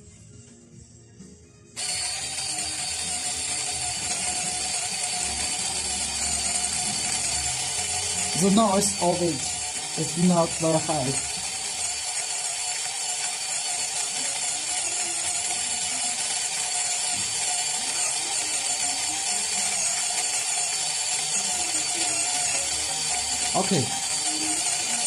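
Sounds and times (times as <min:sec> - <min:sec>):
coffee grinder grinding beans: 0:01.8 - 0:25.0.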